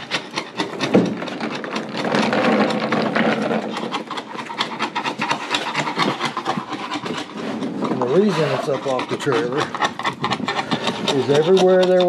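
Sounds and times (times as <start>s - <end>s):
scraper scraping boat hull: 0.0s - 12.0s.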